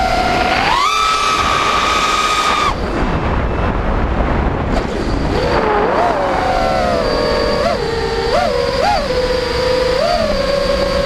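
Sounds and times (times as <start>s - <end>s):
drone motors rumbling and whining: 0.0s - 11.0s.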